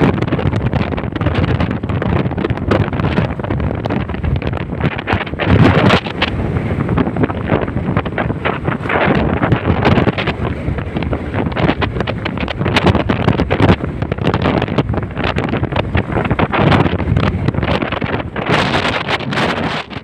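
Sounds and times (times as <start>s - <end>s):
gusty wind buffeting microphone: 0.0s - 20.0s.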